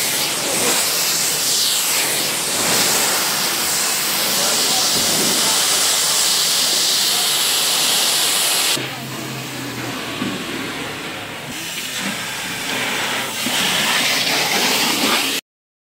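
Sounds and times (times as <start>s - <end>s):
pressure washer jet hissing: 0.0s - 15.4s.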